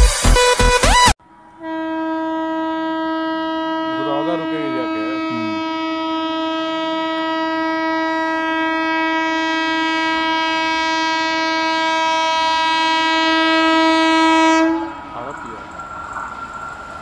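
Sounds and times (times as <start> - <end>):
locomotive horn blast: 1.6 - 15.7.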